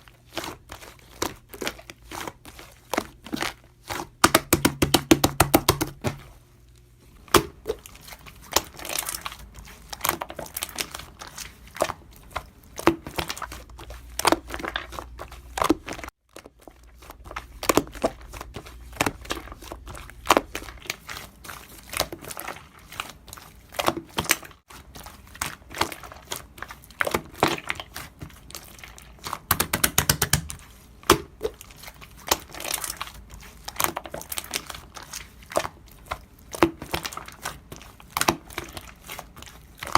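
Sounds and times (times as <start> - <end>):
slime squished by hand: 7.2 - 39.9.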